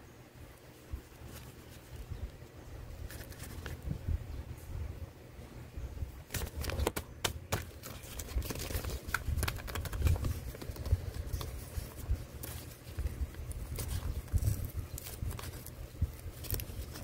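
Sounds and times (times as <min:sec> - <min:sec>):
paper crackling and crinkling: 0:00.7 - 0:03.9, 0:06.3 - 0:17.0.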